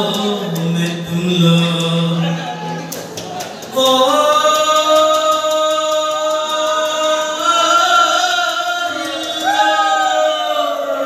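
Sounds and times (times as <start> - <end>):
man singing through pa: 0.0 - 2.8, 3.7 - 11.0.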